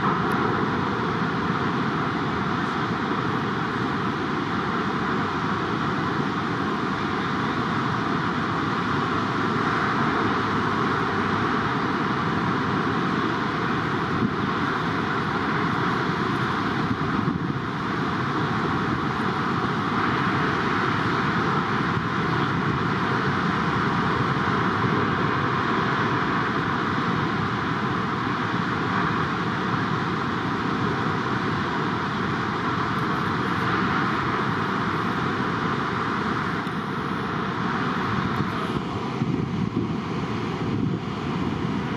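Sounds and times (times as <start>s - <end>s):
heavy ocean surf roaring: 0.0s - 41.9s.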